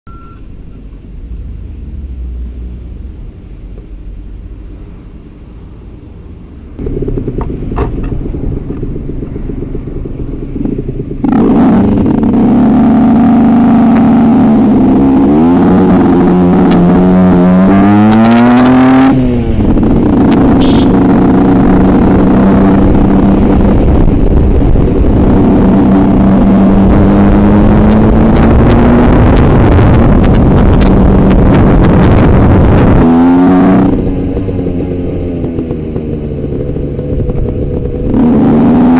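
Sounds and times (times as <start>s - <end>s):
two-stroke engine revving: 6.8s - 38.9s.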